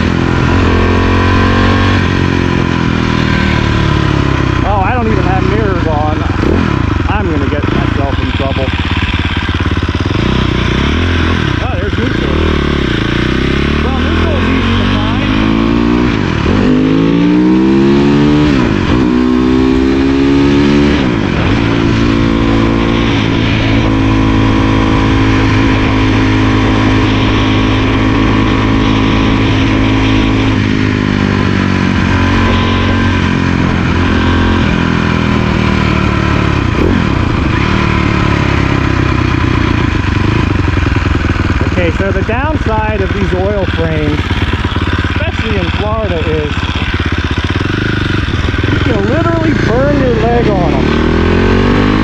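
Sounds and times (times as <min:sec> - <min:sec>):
dirt bike engine running: 0:00.0 - 0:52.0.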